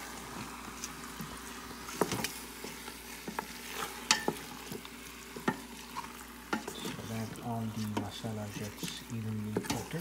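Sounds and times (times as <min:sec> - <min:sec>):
low sizzle: 0:00.0 - 0:10.0
wooden spatula scraping pot: 0:00.4 - 0:10.0.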